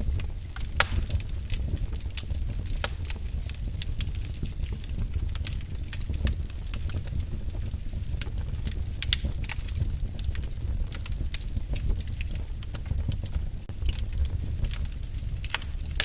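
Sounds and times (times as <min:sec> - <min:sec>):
rumble of fire flames: 0:00.0 - 0:16.0
wood crackling and popping: 0:00.0 - 0:16.0.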